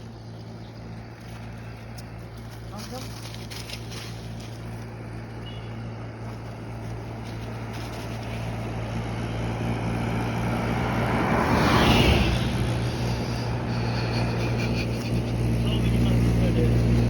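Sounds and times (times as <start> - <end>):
low engine hum: 0.0 - 17.0
vehicle passing by: 0.0 - 17.0.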